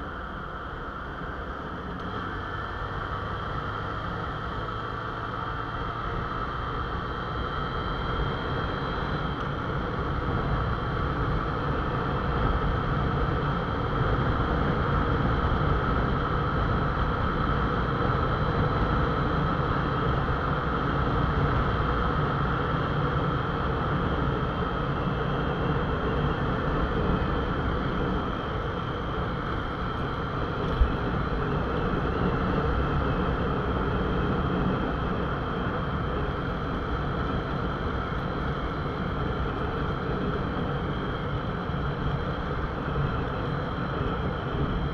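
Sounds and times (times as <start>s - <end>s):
wind and road noise: 0.0s - 44.9s
motorcycle engine running: 0.1s - 44.9s.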